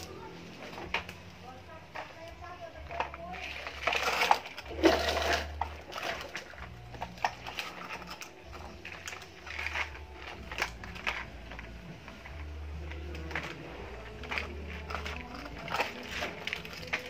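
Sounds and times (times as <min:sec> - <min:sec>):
plastic toy clicking and rattling: 0:01.9 - 0:17.0.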